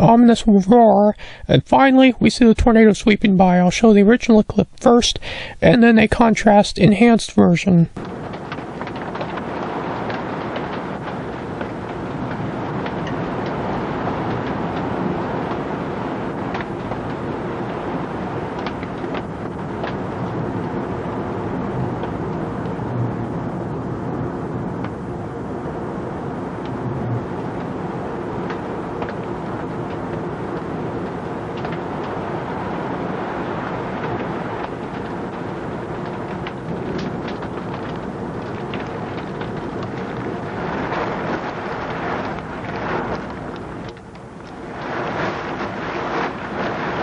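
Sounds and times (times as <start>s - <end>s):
rain ticking on window glass: 0.0s - 47.0s
storm winds roaring: 0.0s - 47.0s.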